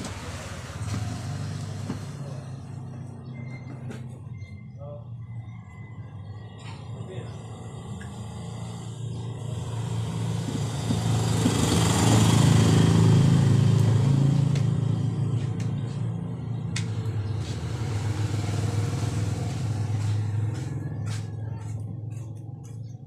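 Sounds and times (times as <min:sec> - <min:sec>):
vehicle engine passing: 0:00.0 - 0:23.0.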